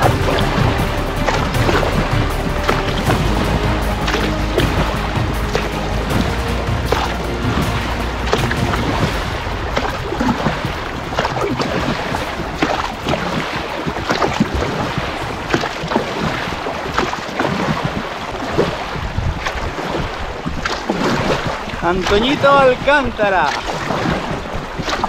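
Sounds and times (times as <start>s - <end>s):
water splashing from kicking fins: 0.0s - 25.0s
wind on microphone: 0.0s - 25.0s.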